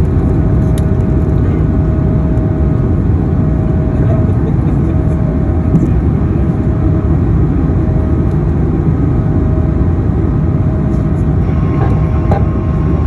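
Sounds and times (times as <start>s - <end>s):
jet engines at takeoff: 0.0s - 13.0s.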